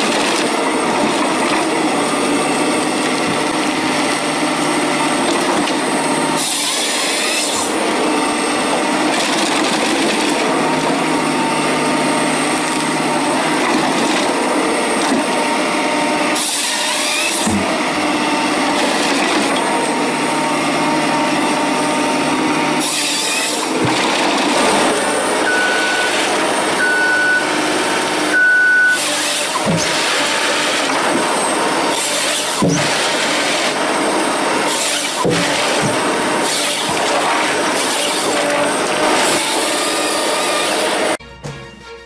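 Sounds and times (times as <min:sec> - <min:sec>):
chainsaw cutting through wood: 0:00.0 - 0:41.2
engine and hydraulic drone: 0:00.0 - 0:41.2.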